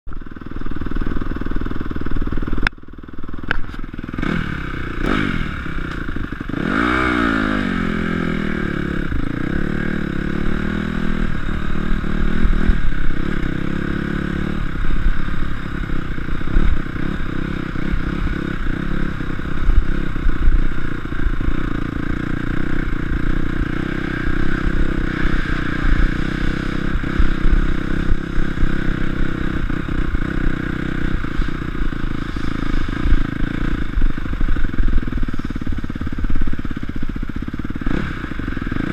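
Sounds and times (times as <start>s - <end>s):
motocross engine revving: 3.6s - 38.9s.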